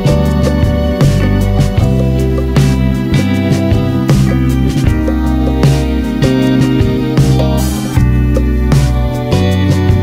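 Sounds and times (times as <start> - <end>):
plucked music with steady beat: 0.0 - 10.0.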